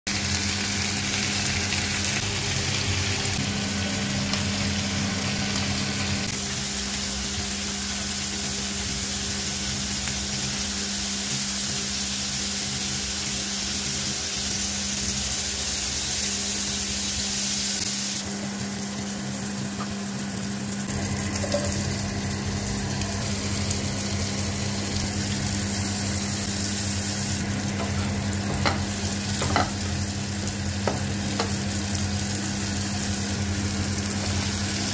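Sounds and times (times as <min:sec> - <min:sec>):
prawns sizzling in oil: 0:00.1 - 0:34.9.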